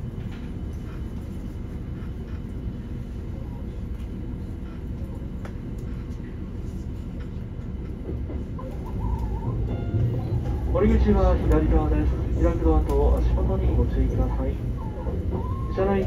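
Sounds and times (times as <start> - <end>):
train cabin rumble: 0.0 - 16.0.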